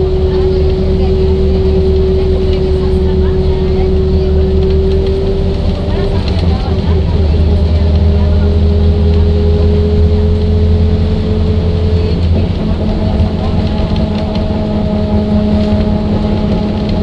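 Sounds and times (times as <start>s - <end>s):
road noise: 0.0s - 17.0s
steady whine: 0.0s - 17.0s
vehicle engine rumble: 0.0s - 17.0s.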